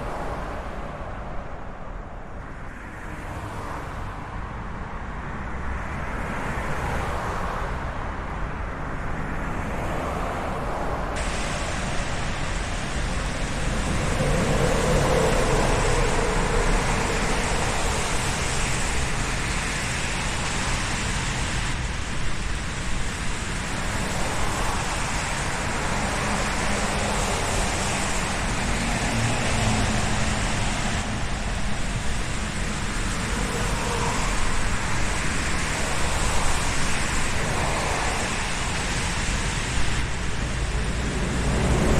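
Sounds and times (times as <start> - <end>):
passing cars: 0.0 - 41.9.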